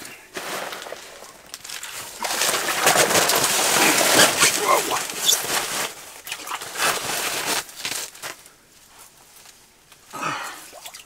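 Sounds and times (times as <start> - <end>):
rustling: 0.0 - 10.1.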